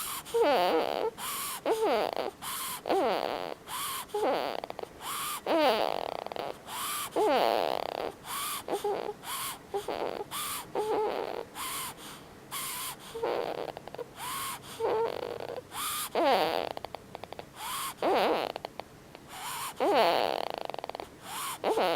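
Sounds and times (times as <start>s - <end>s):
whistling snoring: 0.0s - 12.0s, 12.6s - 16.8s, 17.6s - 18.6s, 19.4s - 21.9s.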